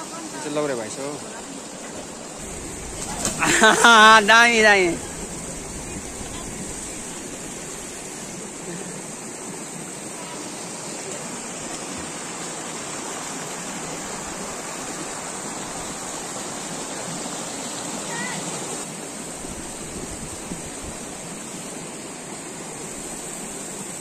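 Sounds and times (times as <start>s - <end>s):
river rushing over boulders: 0.0s - 24.0s.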